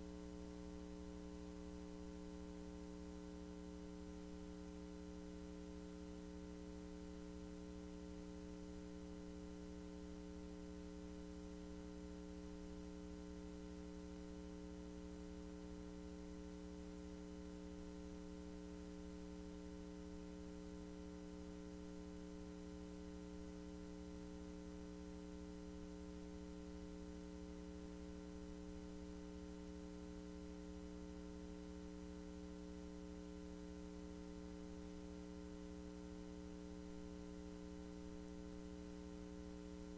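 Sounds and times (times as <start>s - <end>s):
electrical hum: 0.0s - 17.3s, 23.8s - 39.9s.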